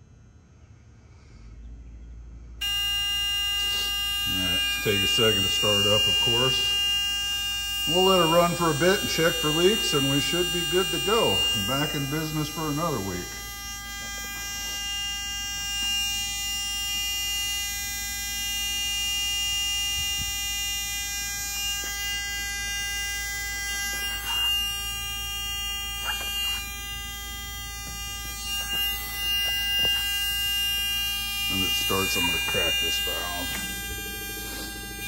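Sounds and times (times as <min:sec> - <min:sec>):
low hum: 0:00.0 - 0:35.0
electrical buzz: 0:02.5 - 0:35.0.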